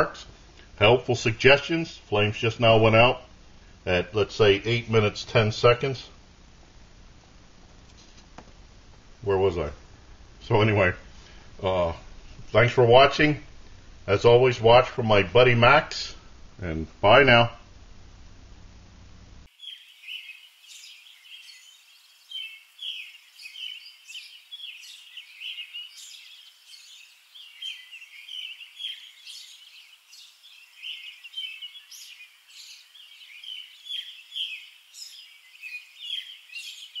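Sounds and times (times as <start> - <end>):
songbirds chirping: 0.0 - 17.6, 19.4 - 37.0.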